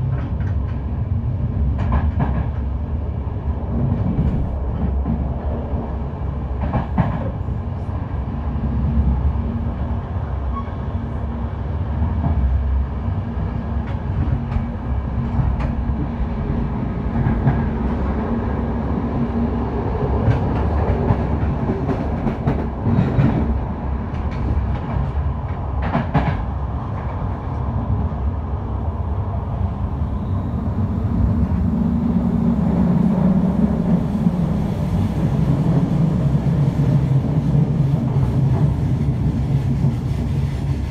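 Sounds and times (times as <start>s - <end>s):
train rumble: 0.0s - 40.9s.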